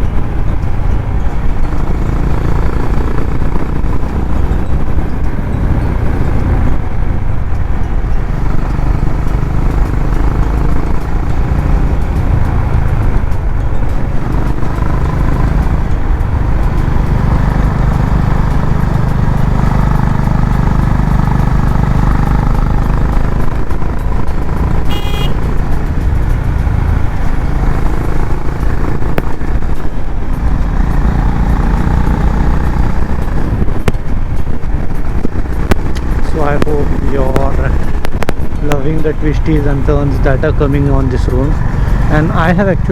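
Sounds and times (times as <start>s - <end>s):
motorcycle engine exhaust rumble: 0.0s - 42.9s.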